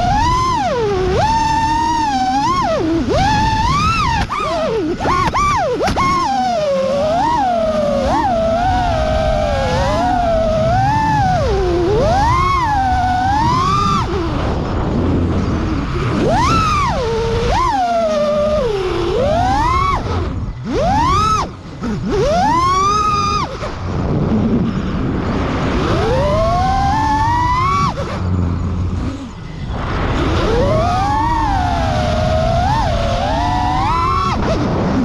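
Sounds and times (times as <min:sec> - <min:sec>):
quadcopter motors whining: 0:00.0 - 0:35.0
steady rush of noise: 0:00.0 - 0:35.0.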